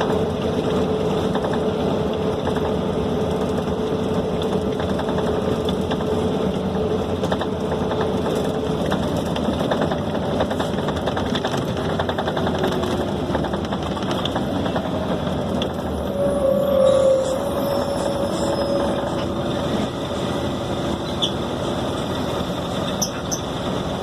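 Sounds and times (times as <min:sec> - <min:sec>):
bus body clicks and rattles: 0:00.0 - 0:16.0, 0:19.0 - 0:24.0
diesel engine drone: 0:00.0 - 0:24.0
road noise: 0:00.0 - 0:24.0
whine: 0:00.0 - 0:24.0.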